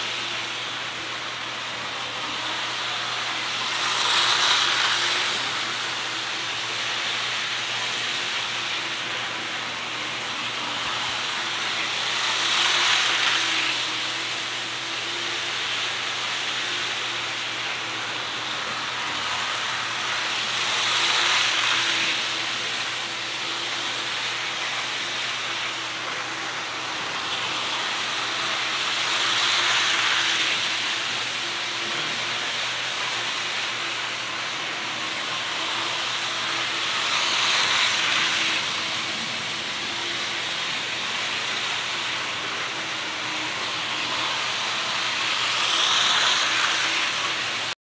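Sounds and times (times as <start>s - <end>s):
model train rolling on track: 0.0s - 47.8s.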